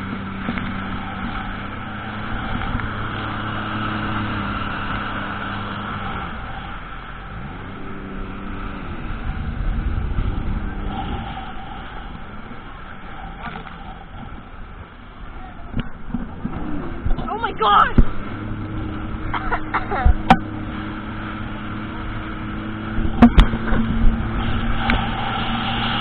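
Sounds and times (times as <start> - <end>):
jet ski engine: 0.0 - 26.0
rush of wind and water: 0.0 - 26.0.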